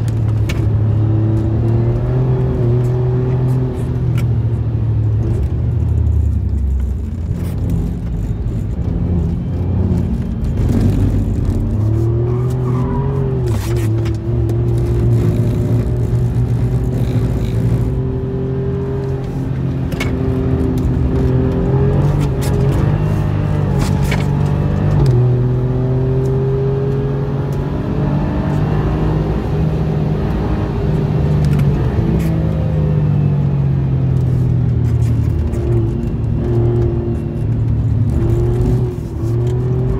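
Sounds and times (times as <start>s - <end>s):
car engine accelerating: 0.0s - 39.9s
tyre and road noise: 0.0s - 39.9s.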